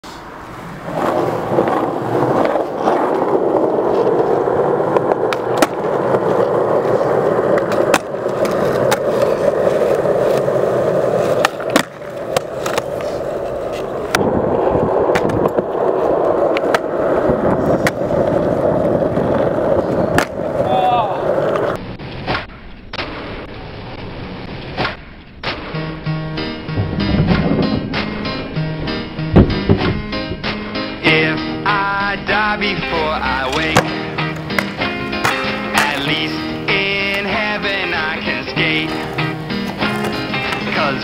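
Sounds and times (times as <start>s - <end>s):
skateboard wheels rolling on concrete: 0.0s - 41.0s
skateboard clicks and knocks: 0.4s - 25.8s, 32.6s - 41.0s.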